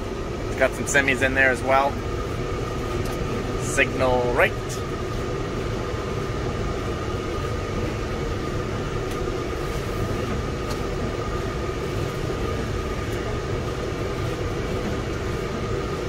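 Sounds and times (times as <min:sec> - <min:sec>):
high whine: 0:00.0 - 0:16.0
tractor engine rumble: 0:00.0 - 0:16.0.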